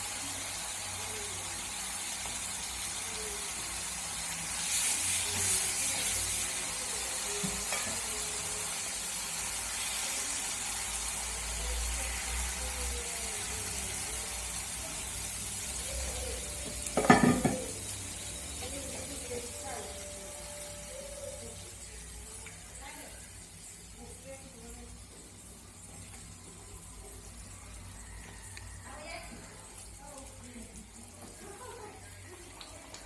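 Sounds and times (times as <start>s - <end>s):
gravy sizzling in a pan: 0.0s - 33.0s.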